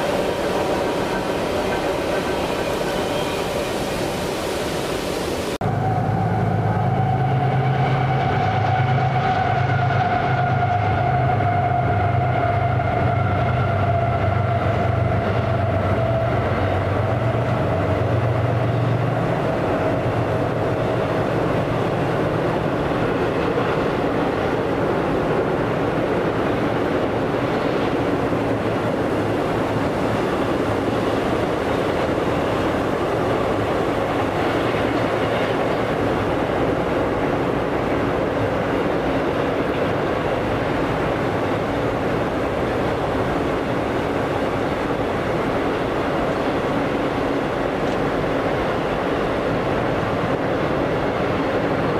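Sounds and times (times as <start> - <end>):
train cars rolling: 0.0 - 5.0, 5.6 - 51.9
locomotive low drone: 5.6 - 51.9.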